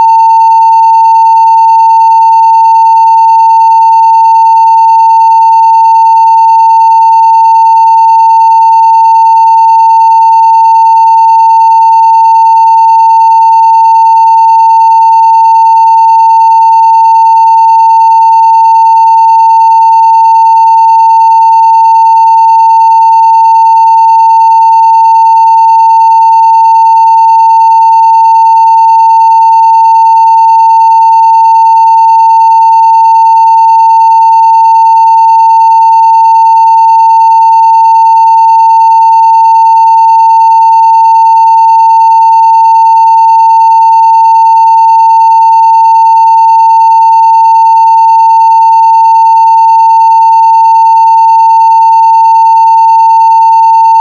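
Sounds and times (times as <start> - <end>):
sine wave test tone: 0.0 - 54.0.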